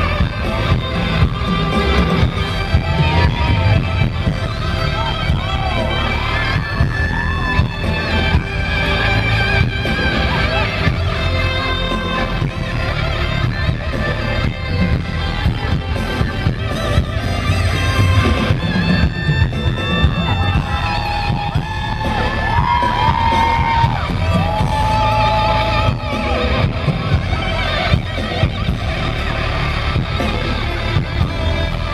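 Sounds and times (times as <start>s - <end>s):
live pop song over loudspeakers: 0.0s - 31.9s.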